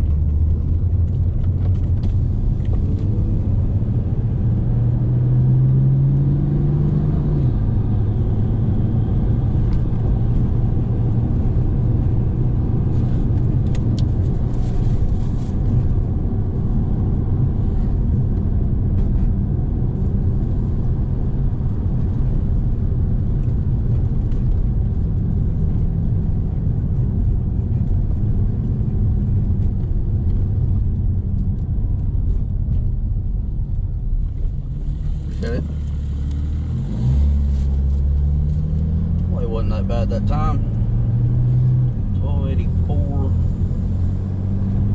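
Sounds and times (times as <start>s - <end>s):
car engine rumbling: 0.0s - 44.9s.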